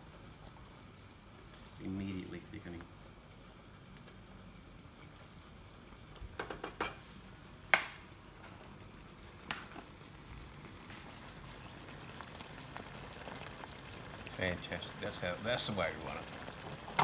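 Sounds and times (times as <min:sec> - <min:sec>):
sauce simmering in a wok: 0:00.0 - 0:17.0.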